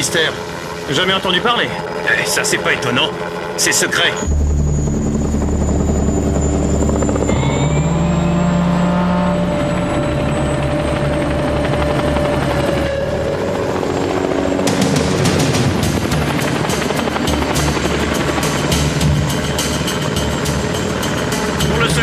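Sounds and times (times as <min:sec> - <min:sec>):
helicopter rotor thrum: 0:00.0 - 0:22.0
turbine whine: 0:00.0 - 0:22.0.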